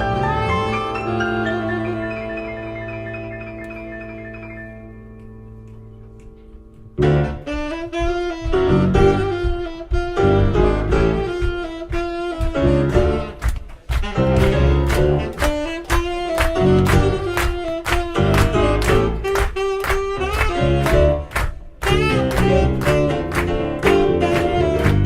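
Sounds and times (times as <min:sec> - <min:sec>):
saxophone lead: 0:00.0 - 0:05.3, 0:07.0 - 0:25.0
live band playing: 0:00.0 - 0:25.0.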